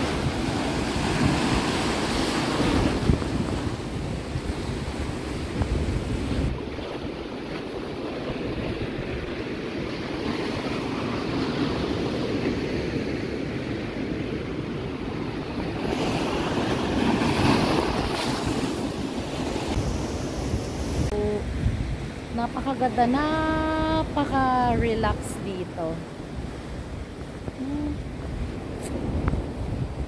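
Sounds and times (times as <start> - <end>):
wind rumbling on microphone: 0.0 - 30.0.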